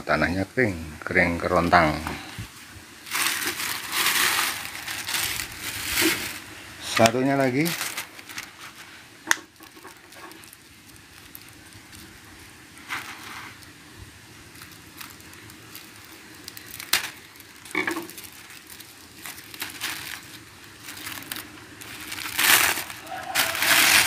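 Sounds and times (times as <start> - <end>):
plastic bag crinkling: 3.0 - 24.0.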